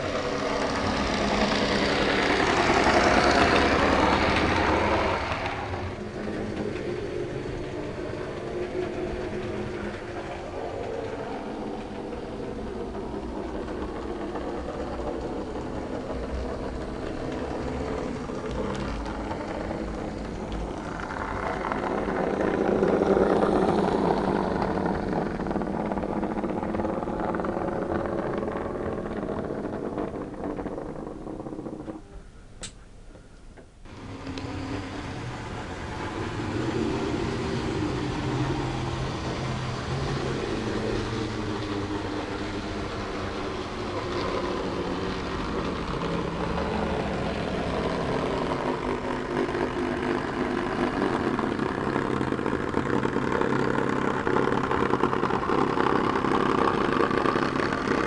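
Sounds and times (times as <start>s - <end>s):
model locomotives droning: 0.0s - 58.0s.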